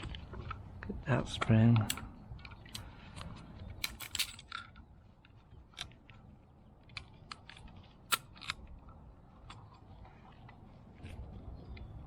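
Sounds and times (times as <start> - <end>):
small metal and plastic parts clicking: 1.4 - 11.9.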